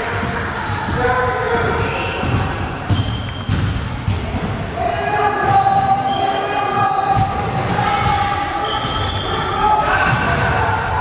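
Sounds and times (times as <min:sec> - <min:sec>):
shoe squeaks: 0:00.1 - 0:01.2, 0:02.8 - 0:11.0.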